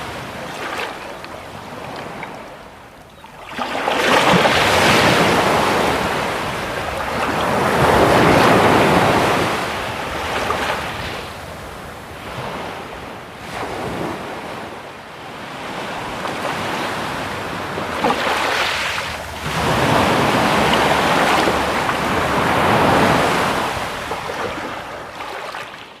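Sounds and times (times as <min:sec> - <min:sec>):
sea waves breaking: 0:00.0 - 0:26.0.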